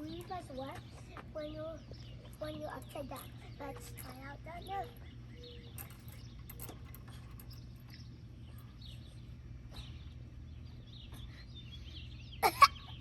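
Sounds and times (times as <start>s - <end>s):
birds chirping: 0.0s - 13.0s
low outdoor hum: 0.0s - 13.0s.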